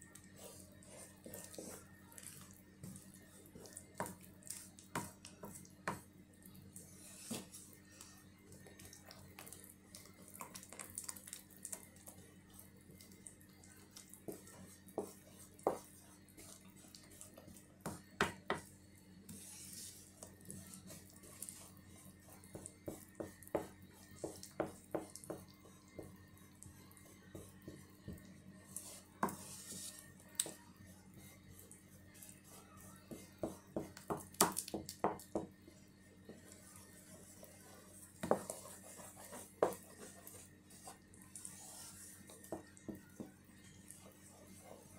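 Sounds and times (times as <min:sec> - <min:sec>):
wet batter scraping: 0:00.1 - 0:18.2, 0:19.2 - 0:26.0, 0:26.8 - 0:42.9, 0:43.8 - 0:44.9.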